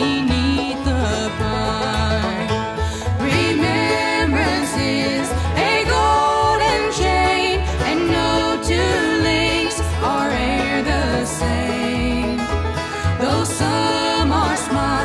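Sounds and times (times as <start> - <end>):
plucked strings: 0.0 - 15.0
voices singing: 0.0 - 15.0.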